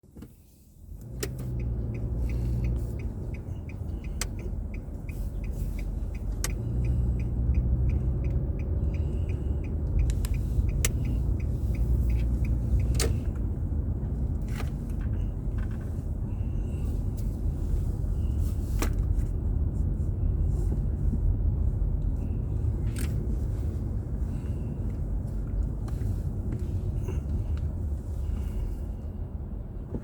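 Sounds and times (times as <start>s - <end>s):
engine and road rumble: 0.0s - 30.0s
turn signal ticking: 0.2s - 30.0s.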